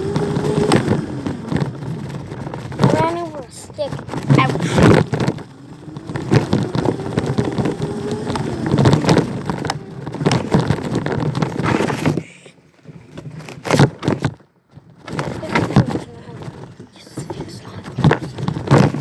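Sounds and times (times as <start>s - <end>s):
bike frame rattling: 0.0s - 16.9s, 18.0s - 19.0s
bike tyres crackling over sticks: 0.0s - 17.0s, 17.6s - 19.0s.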